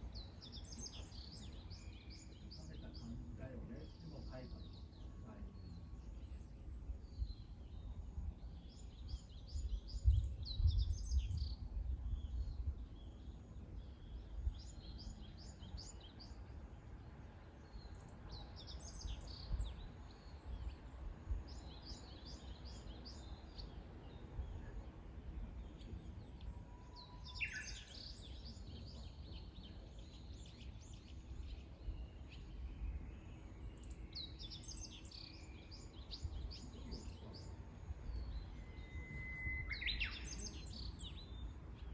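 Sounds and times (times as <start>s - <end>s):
low outdoor rumble: 0.0s - 41.9s
songbirds chirping: 0.0s - 41.9s.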